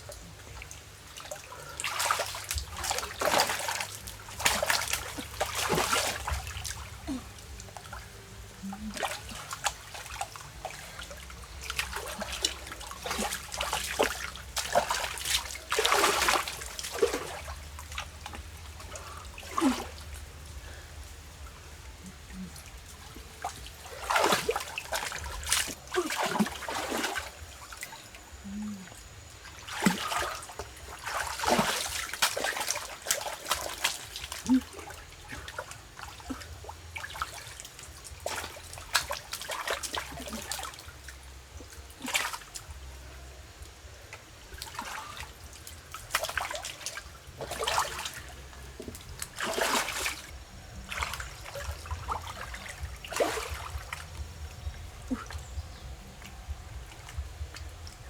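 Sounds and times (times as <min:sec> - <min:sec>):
water splashing and dribbling: 0:00.0 - 0:58.0.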